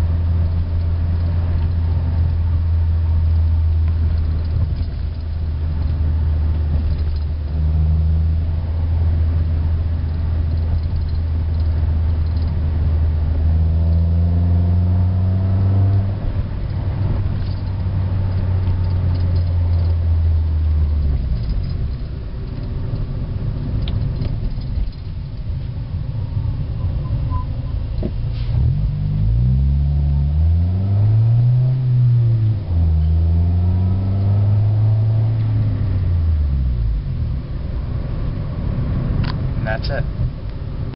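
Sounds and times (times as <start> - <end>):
car engine droning from inside cabin: 0.0 - 40.9.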